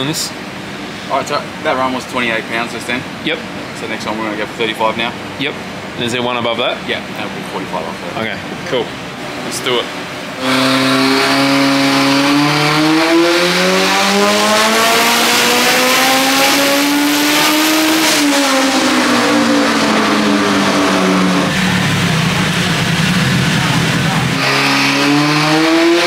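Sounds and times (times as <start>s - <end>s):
turbocharged engine revving on dyno: 0.0s - 26.0s.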